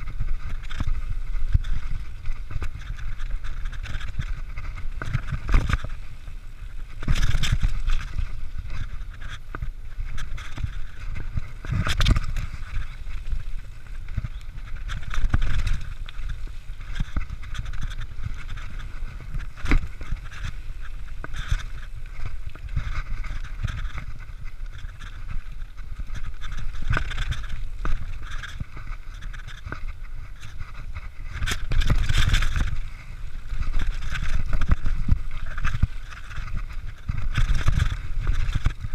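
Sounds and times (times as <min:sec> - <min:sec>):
bike rattling over bumps: 0:00.0 - 0:38.9
wind rumble on microphone: 0:00.0 - 0:38.9.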